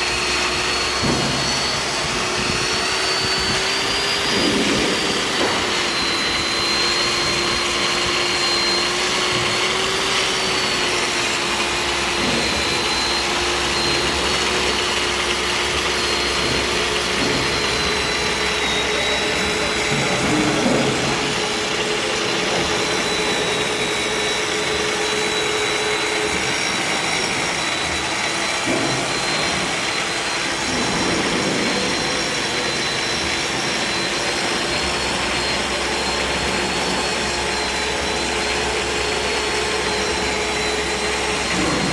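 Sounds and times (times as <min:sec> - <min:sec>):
grinding machine whirring: 0:00.0 - 0:41.9.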